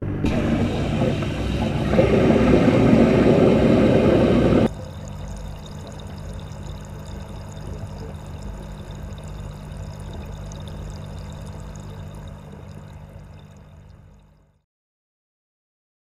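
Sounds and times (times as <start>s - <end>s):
muffled water churning underwater: 0.0s - 14.6s
steady low hum: 0.0s - 14.6s.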